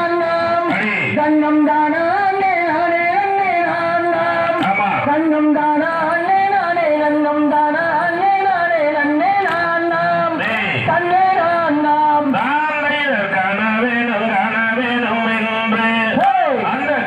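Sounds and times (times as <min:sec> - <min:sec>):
person singing folk song: 0:00.0 - 0:17.0.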